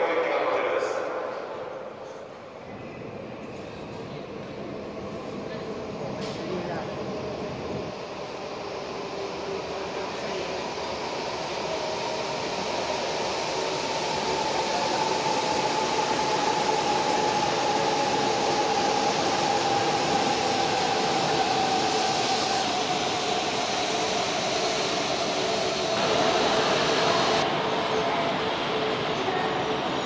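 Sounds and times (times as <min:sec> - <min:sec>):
train rumbling with falling whine: 0:01.0 - 0:30.0.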